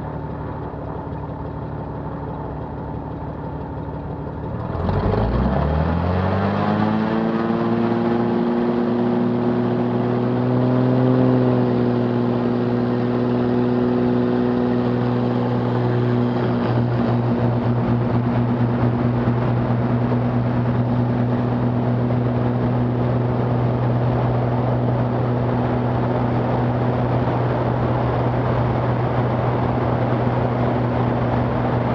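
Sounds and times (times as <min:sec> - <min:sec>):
propeller plane engine: 0:00.0 - 0:31.9.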